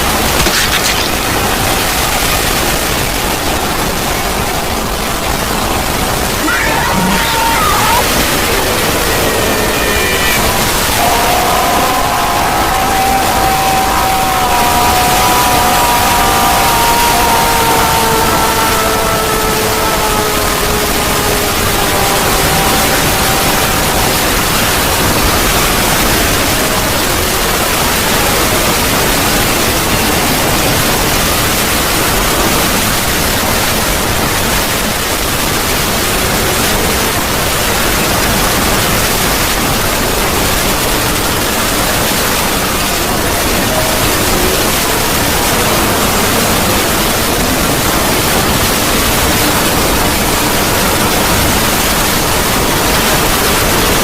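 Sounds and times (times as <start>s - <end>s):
harsh static-like noise: 0.0s - 54.0s.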